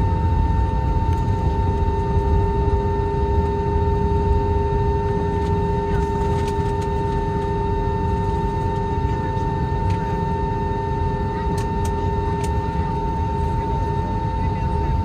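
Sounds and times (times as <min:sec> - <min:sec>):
jet engine idling: 0:00.0 - 0:15.0.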